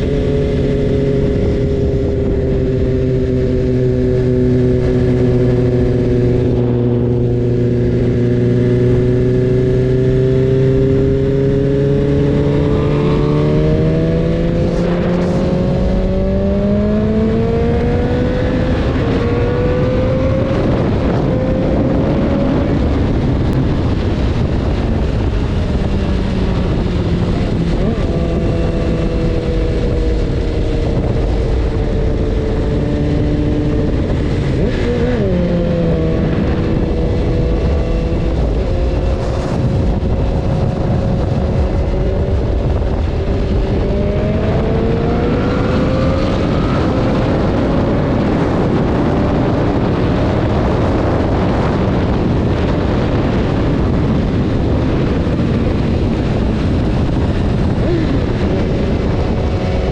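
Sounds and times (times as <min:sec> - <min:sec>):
heavy wind rush: 0:00.0 - 0:59.9
motorcycle engine running: 0:00.0 - 0:59.9.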